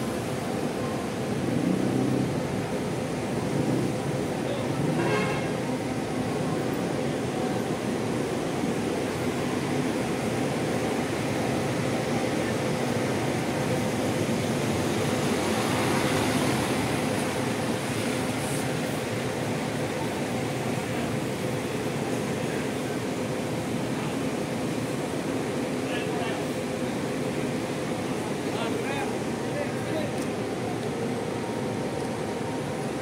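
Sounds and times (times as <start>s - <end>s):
bus engine humming: 0.0s - 33.0s.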